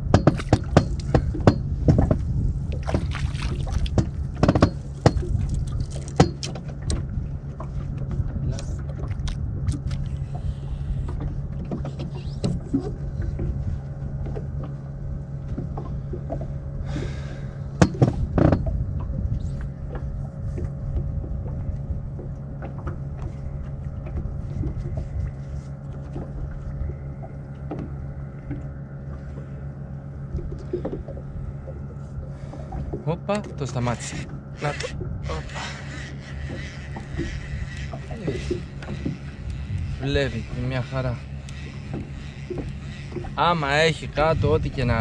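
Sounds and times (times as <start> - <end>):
boat motor humming: 0.0 - 45.0.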